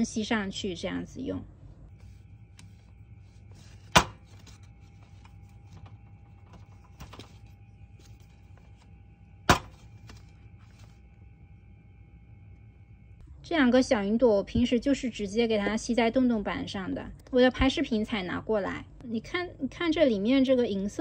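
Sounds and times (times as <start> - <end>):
faint steady high whine: 0.0 - 21.0.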